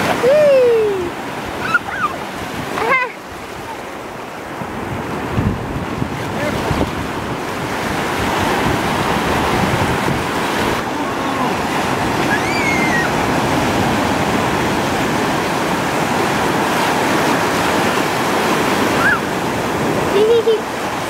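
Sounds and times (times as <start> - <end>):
ocean surf washing: 0.0 - 21.0
wind buffeting microphone: 0.0 - 21.0.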